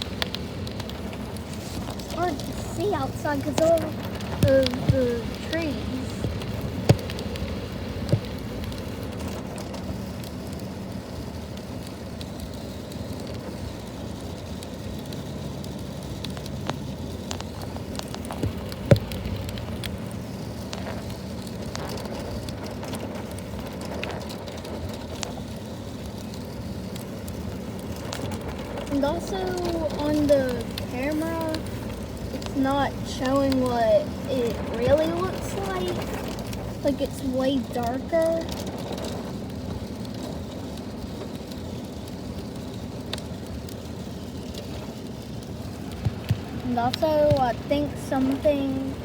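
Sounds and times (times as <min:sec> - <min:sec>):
sharp drip clicks: 0:00.0 - 0:10.6, 0:14.2 - 0:25.4, 0:26.0 - 0:44.8, 0:45.7 - 0:48.8
heavy rain falling: 0:00.0 - 0:49.0.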